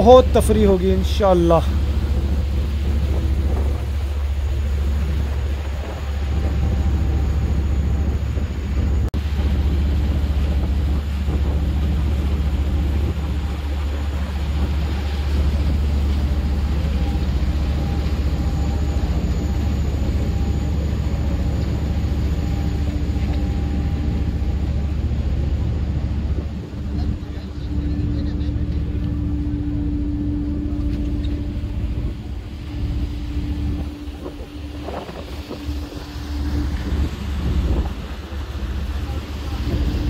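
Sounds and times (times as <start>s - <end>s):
boat engine droning: 0.0s - 40.0s.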